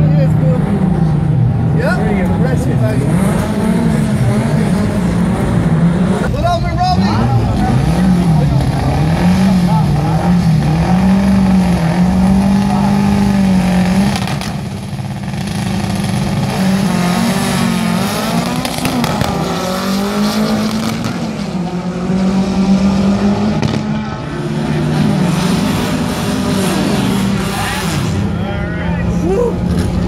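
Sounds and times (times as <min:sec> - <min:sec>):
car engines revving: 0:00.0 - 0:30.0
cars launching and accelerating: 0:00.0 - 0:30.0.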